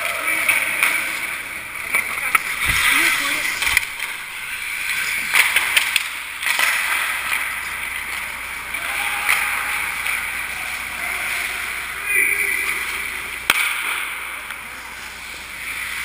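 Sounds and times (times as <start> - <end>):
hockey sticks and puck clacking: 0.0 - 16.0
skates scraping on ice: 0.1 - 13.1.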